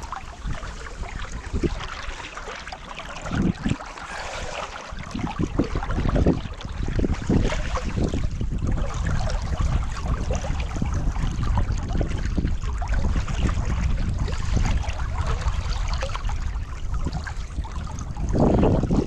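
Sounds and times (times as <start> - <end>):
river water rushing and lapping: 0.0 - 19.0
wind buffeting microphone: 0.0 - 19.0.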